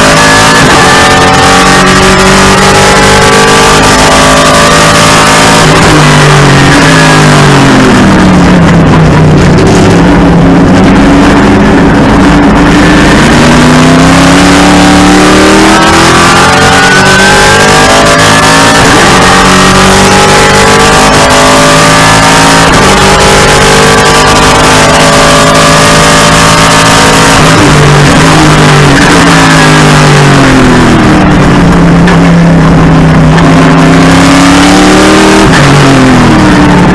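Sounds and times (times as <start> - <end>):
race car engine at speed: 0.0 - 36.9.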